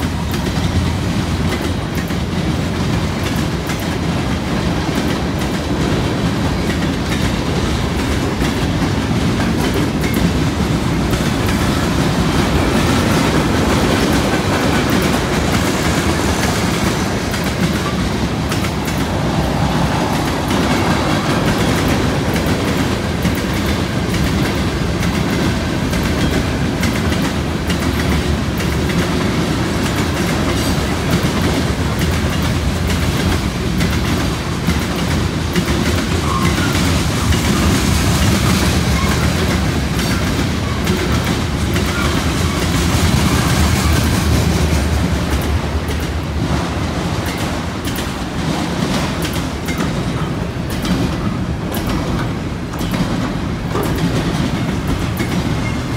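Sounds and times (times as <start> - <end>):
rattle of freight cars: 0.0 - 55.9
train wheels clacking over rail joints: 0.0 - 55.9.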